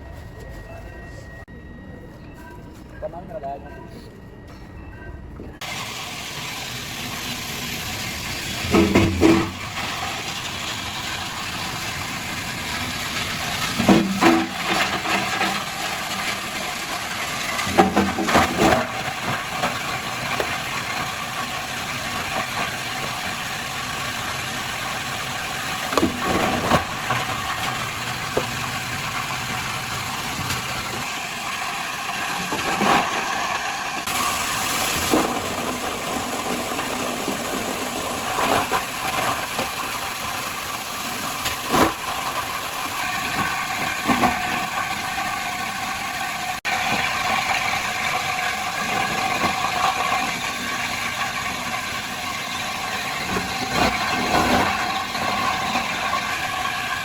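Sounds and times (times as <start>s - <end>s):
workshop machinery running: 0.0s - 57.0s.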